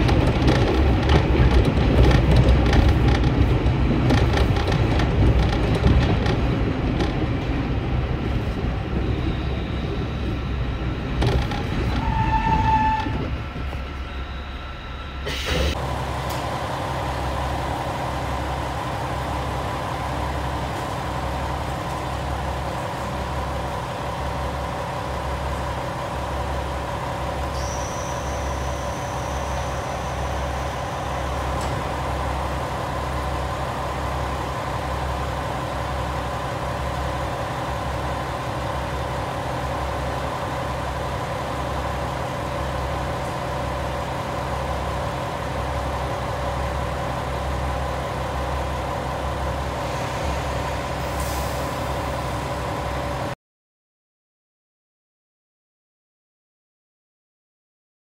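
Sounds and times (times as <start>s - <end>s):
railcar running rumble: 0.0s - 53.4s.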